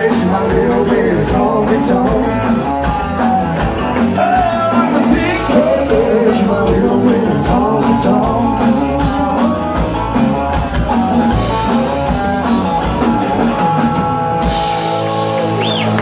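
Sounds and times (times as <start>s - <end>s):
country-rock band playing: 0.0s - 16.0s.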